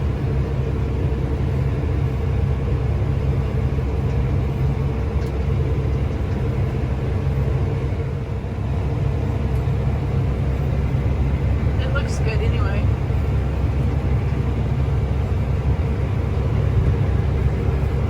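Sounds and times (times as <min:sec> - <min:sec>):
diesel engine low drone: 0:00.0 - 0:18.0.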